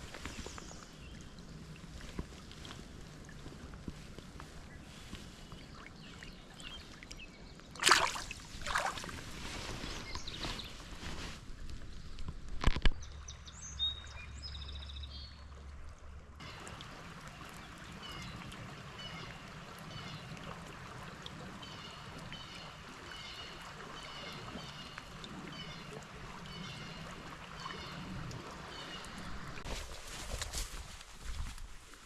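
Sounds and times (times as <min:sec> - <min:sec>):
flowing river water: 0:00.0 - 0:32.0.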